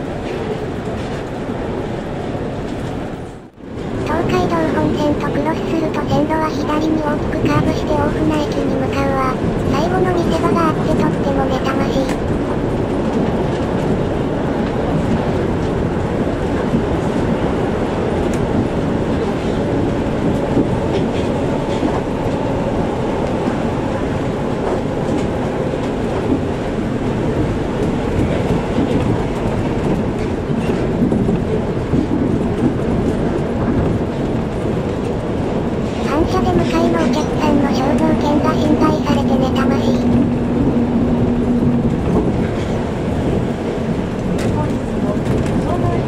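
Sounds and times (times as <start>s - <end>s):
monorail car rumbling: 0.0s - 46.0s.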